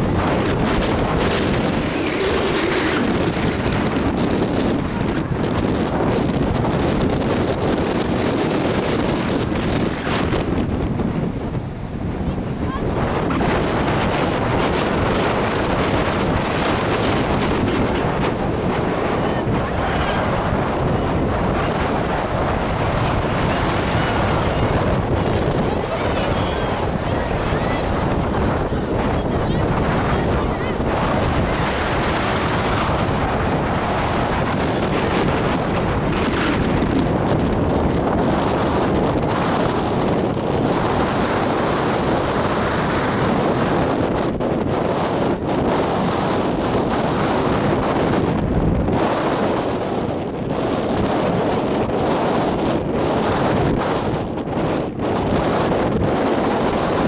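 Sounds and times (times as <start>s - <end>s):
wind blowing across microphone: 0.0s - 57.0s.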